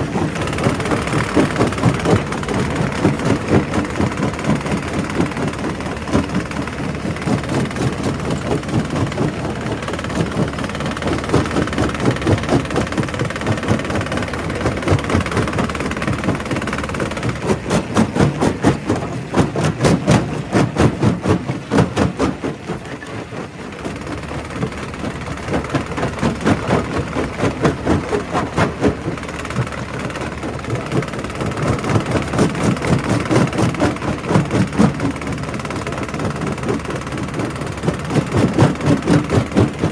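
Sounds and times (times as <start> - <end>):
rock crusher crushing stone: 0.0 - 39.9.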